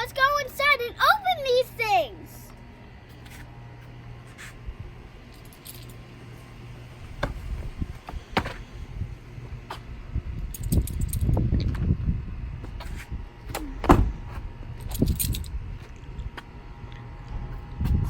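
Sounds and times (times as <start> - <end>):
steady low hum in a car: 0.0 - 18.0.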